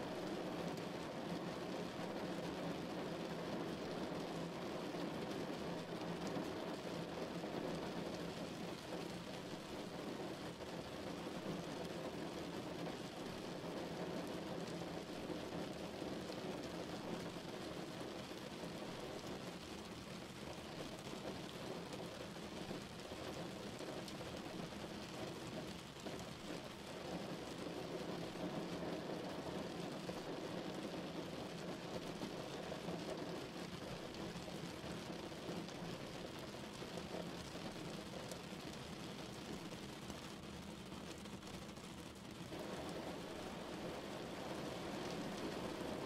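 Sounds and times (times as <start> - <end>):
rain on window pane: 0.0 - 46.0.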